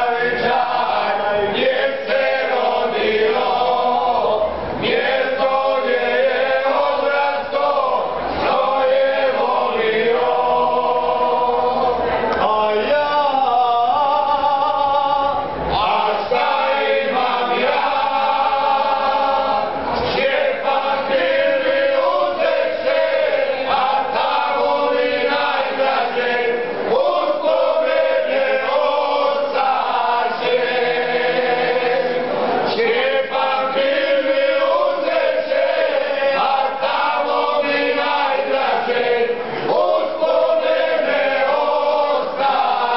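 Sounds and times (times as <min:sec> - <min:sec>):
men singing folk song: 0:00.0 - 0:42.9.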